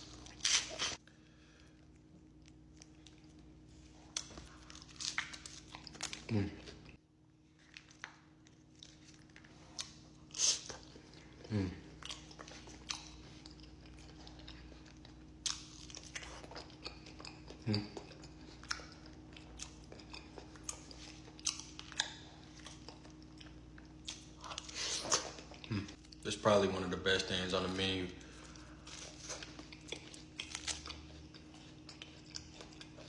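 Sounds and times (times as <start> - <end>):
person chewing crunchy food: 0.0 - 26.2, 28.2 - 33.0.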